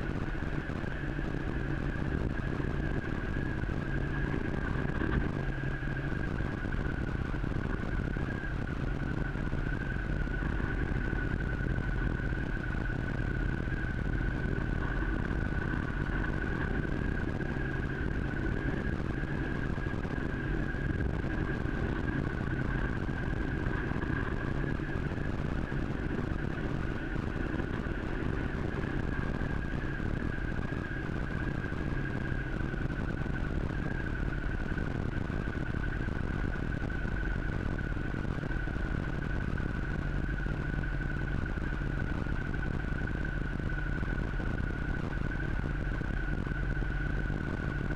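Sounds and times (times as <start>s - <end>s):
high-pitched whine: 0.0s - 47.9s.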